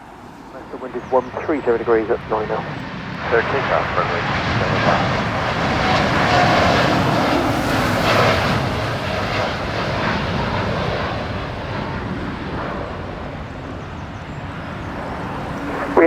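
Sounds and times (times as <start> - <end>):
jet airliner engine rumble: 0.0 - 16.0.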